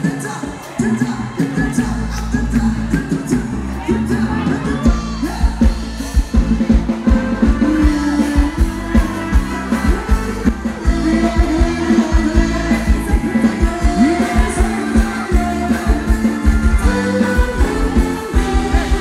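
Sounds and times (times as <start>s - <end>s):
bass: 0.0s - 19.0s
live band dance music: 0.0s - 19.0s
person singing: 0.0s - 19.0s
drum beat: 1.4s - 19.0s.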